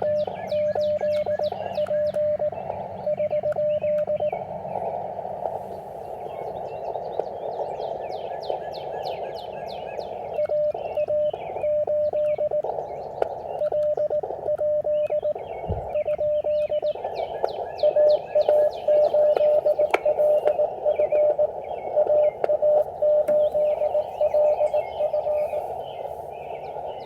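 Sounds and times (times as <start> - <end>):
morse code tone: 0.0 - 5.1, 8.5 - 27.0
birds chirping: 0.0 - 27.0
receiver hiss: 0.0 - 27.0.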